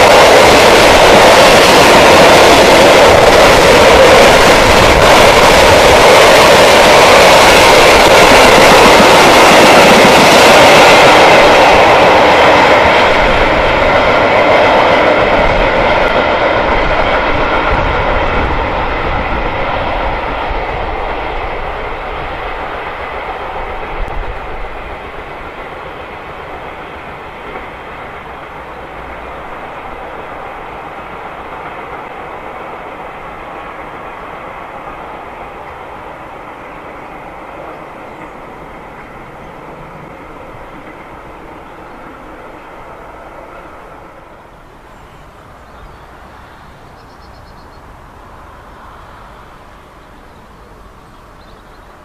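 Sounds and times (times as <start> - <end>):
freight wagons wheel-on-rail noise: 0.0 - 52.0.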